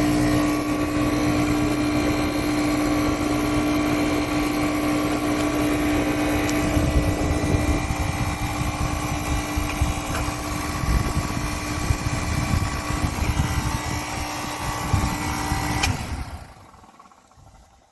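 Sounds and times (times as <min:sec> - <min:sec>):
air compressor humming: 0:00.0 - 0:17.9.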